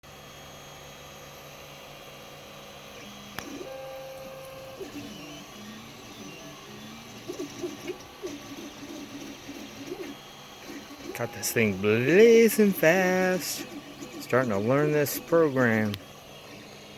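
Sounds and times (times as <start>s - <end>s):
printer stepper motors whining: 0.1s - 16.9s.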